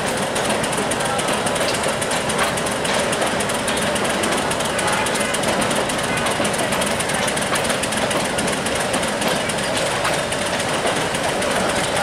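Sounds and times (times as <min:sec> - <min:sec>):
diesel locomotive engines: 0:00.0 - 0:12.0
train wheels clicking: 0:00.0 - 0:12.0.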